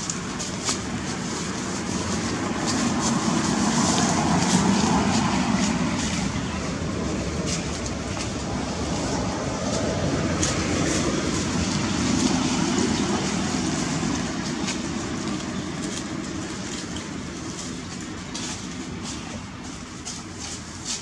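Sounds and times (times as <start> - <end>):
dry leaves crackling: 0.0 - 21.0
passing motor vehicle rumble: 0.0 - 21.0.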